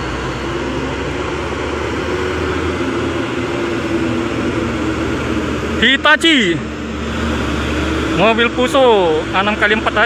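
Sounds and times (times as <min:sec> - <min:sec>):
heavy diesel trucks passing: 0:00.0 - 0:10.0
tyre and road noise: 0:00.0 - 0:10.0.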